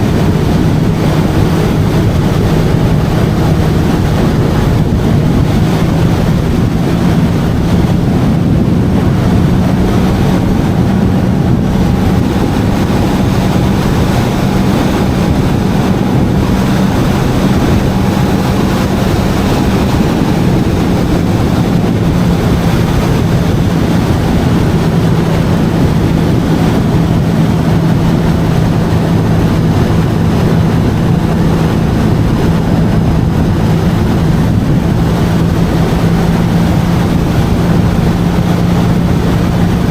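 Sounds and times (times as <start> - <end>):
jet ski engine running: 0.0 - 39.9
water rushing: 0.0 - 39.9.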